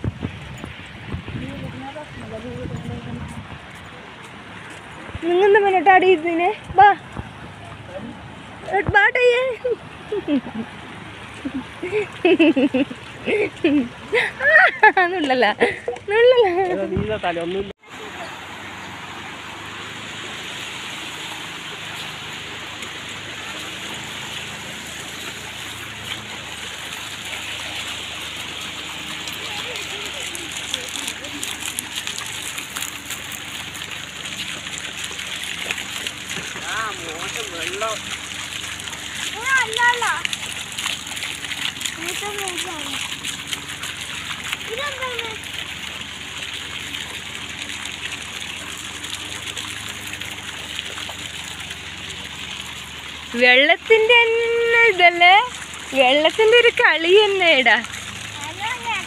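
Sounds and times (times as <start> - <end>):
fountain jets splashing: 0.0 - 59.0
water flowing over weirs: 0.0 - 59.0.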